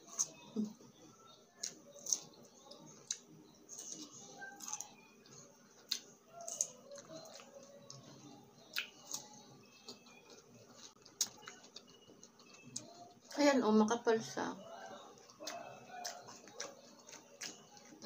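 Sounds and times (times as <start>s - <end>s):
chewing cucumber crunches: 1.6s - 13.3s, 15.2s - 18.0s.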